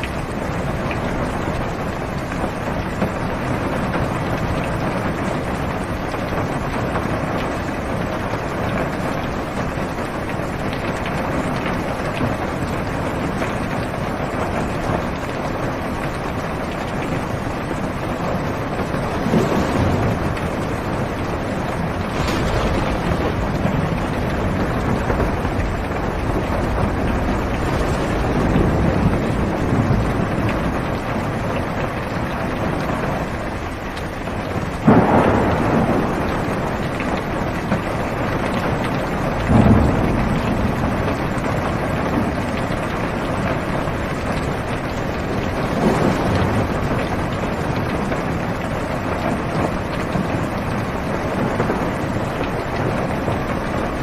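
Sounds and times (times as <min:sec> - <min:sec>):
thunder clap: 0:00.0 - 0:33.7, 0:34.3 - 0:54.0
heavy rain on car roof: 0:00.0 - 0:54.0
thunder rumbling: 0:00.0 - 0:54.0.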